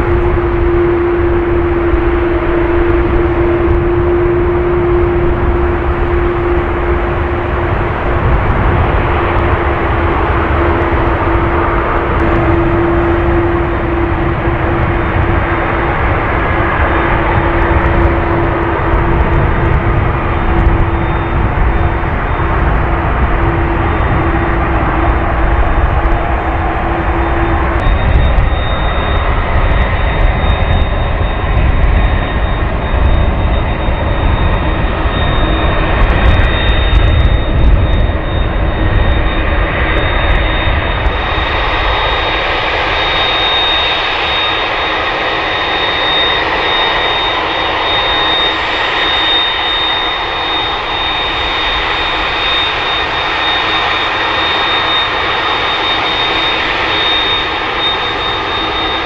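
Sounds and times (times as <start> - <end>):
heavy low rumble: 0.0 - 59.0
high engine whine: 0.0 - 59.0
jet engines roaring: 0.0 - 59.0.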